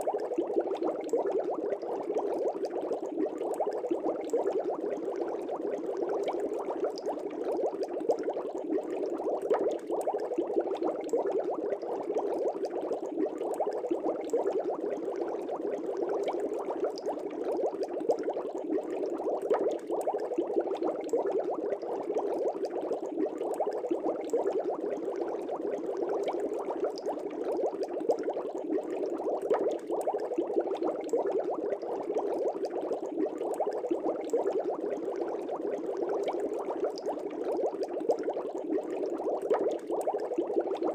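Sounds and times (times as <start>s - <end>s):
aquarium air bubbling: 0.0s - 40.9s.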